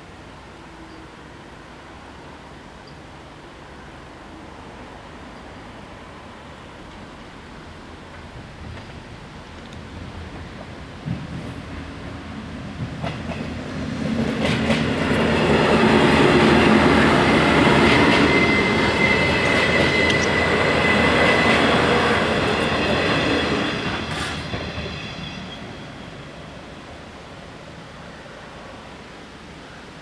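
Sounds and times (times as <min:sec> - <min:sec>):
high whine from train wheels: 0:00.0 - 0:29.6
diesel train passing: 0:00.0 - 0:30.0.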